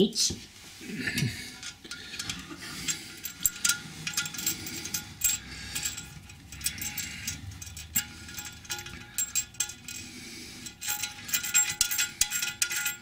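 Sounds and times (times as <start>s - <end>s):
wing nut clicking and scraping: 1.4s - 13.0s.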